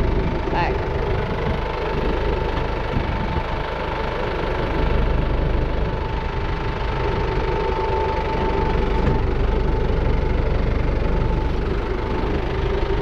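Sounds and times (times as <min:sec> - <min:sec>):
engine running: 0:00.0 - 0:13.0
thin steady whine: 0:00.0 - 0:13.0.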